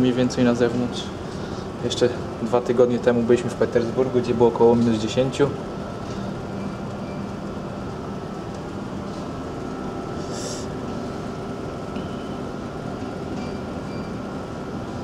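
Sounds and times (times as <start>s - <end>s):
ship machinery humming: 0.0s - 15.0s.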